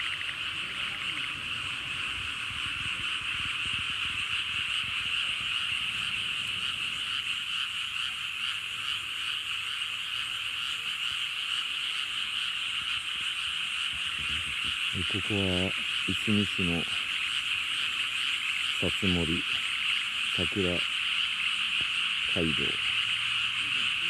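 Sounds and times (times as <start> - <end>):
chorus of frogs calling: 0.0 - 24.0.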